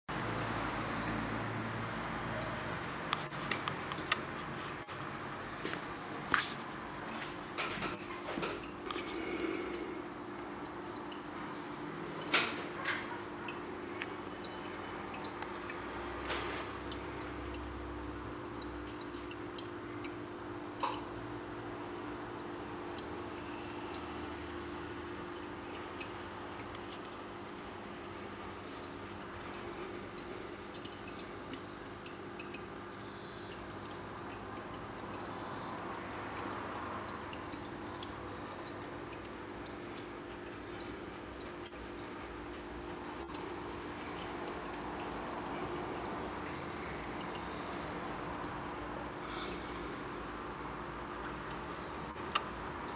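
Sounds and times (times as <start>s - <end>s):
small waterfall trickling: 0.1s - 52.9s.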